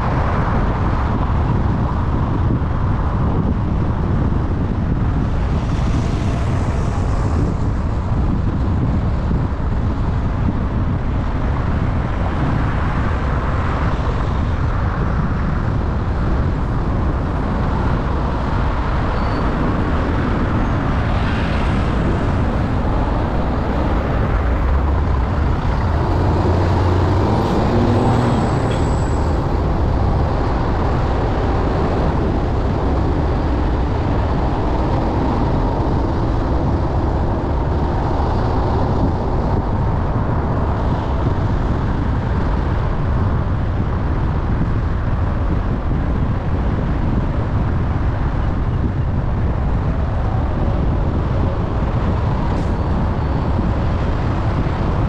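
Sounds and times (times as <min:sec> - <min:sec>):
car road and engine rumble: 0:00.0 - 0:55.0
surrounding traffic noise: 0:00.0 - 0:55.0.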